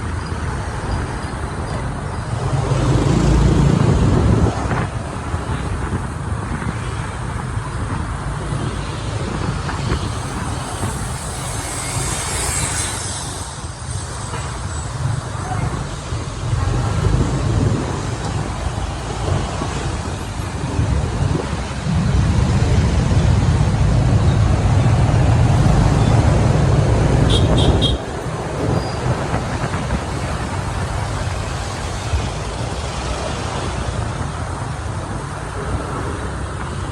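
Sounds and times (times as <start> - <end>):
motorbike engine and road noise: 0.0 - 36.9
rumble of traffic: 0.0 - 36.9
wind against microphone: 0.0 - 36.9.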